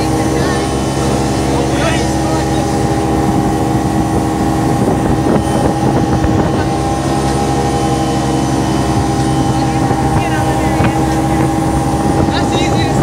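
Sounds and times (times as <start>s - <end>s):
motorboat engine hum: 0.0s - 13.0s
water rushing from wake: 0.0s - 13.0s.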